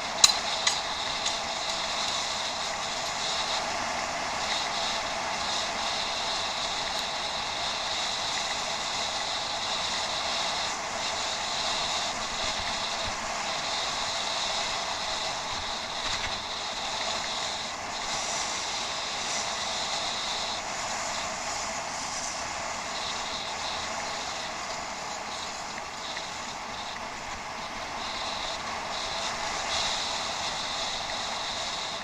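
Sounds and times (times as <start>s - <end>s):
bicycle riding rush: 0.0s - 32.0s.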